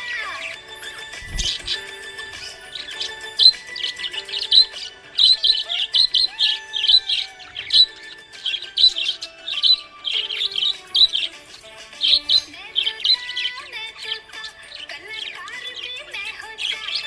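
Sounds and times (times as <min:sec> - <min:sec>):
parrots chirping: 0:00.0 - 0:17.0
soft background music: 0:00.0 - 0:17.0.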